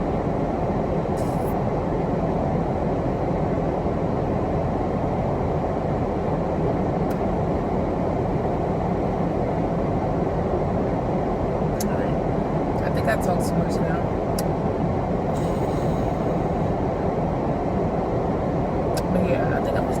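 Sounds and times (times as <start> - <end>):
car defroster fan blowing: 0.0 - 20.0.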